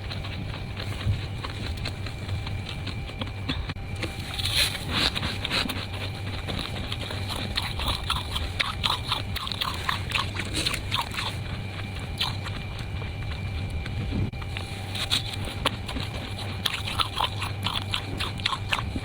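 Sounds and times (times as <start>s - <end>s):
freezer frost crunching: 0.0s - 19.0s.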